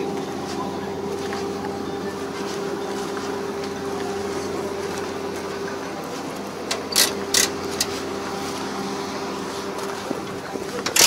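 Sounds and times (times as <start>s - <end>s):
farm machine engine running: 0.0s - 11.0s.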